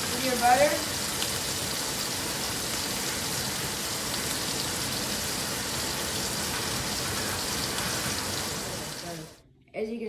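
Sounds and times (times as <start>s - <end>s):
meat sizzling in butter: 0.0s - 9.3s.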